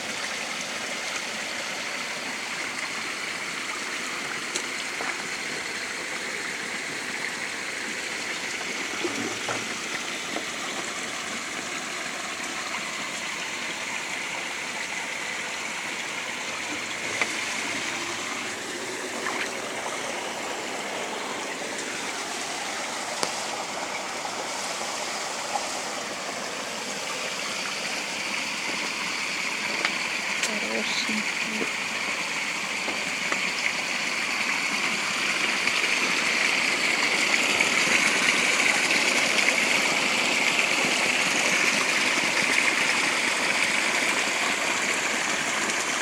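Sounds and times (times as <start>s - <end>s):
stream water running: 0.0s - 46.0s.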